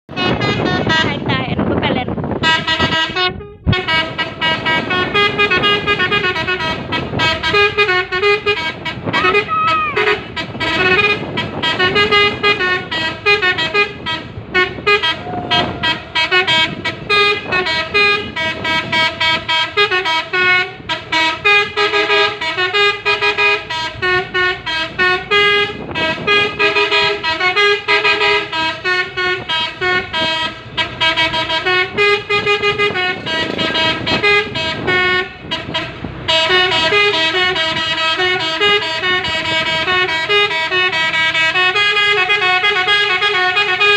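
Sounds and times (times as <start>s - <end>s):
truck horn playing a tune: 0.1s - 43.9s.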